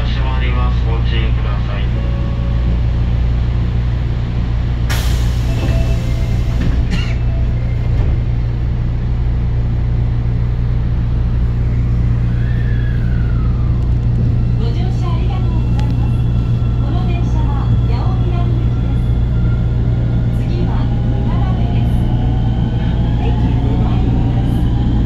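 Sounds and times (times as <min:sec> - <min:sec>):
subway car low hum: 0:00.0 - 0:25.0.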